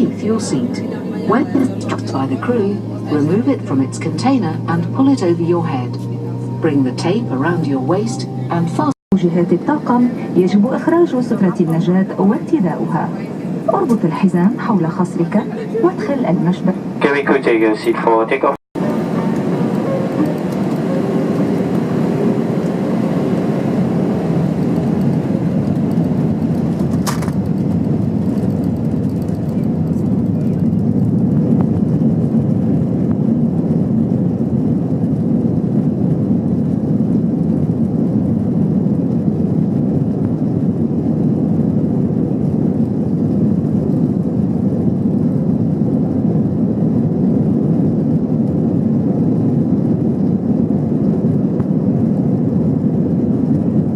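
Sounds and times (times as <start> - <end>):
jet engine rumble in cabin: 0.0 - 53.9.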